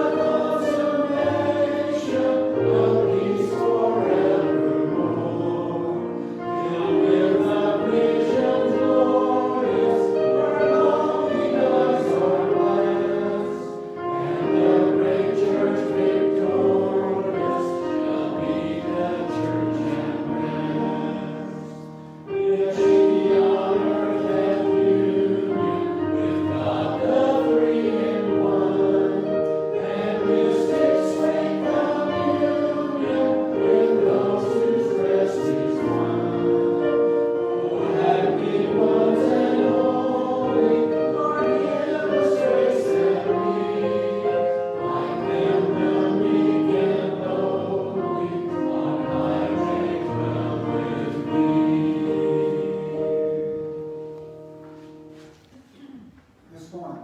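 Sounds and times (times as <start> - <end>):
choir singing a hymn: 0.0 - 56.0
instrumental accompaniment: 0.0 - 56.9.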